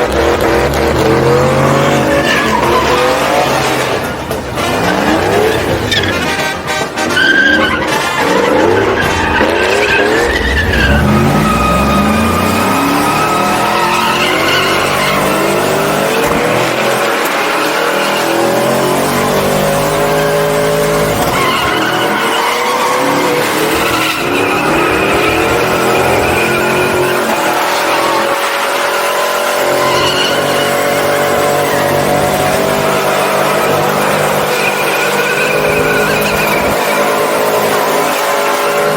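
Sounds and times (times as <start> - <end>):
tire squeal: 0.0 - 38.9
truck engine revving high: 0.0 - 38.9.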